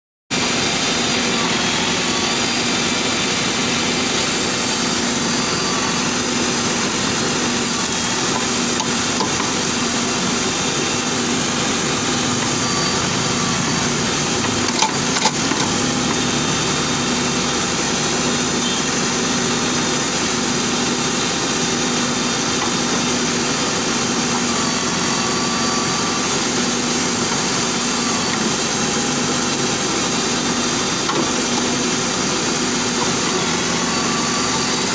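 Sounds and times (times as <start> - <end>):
diesel engine running: 0.3 - 34.9.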